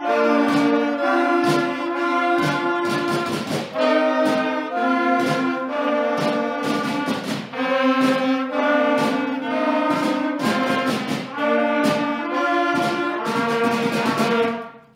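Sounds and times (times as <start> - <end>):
percussion hits: 0.0 - 14.9
school concert band playing: 0.0 - 14.9.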